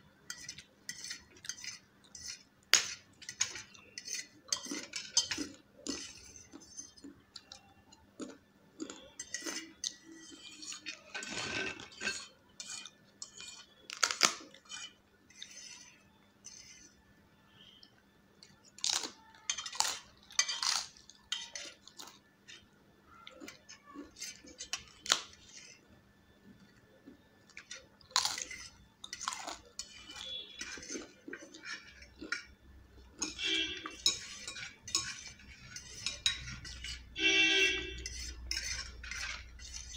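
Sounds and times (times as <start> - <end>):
crunching and chewing crisp food: 0.1 - 17.0, 17.6 - 39.9
forks clinking and scraping on plates: 0.3 - 7.5, 8.2 - 16.9, 18.8 - 22.6, 23.4 - 25.8, 27.5 - 39.9.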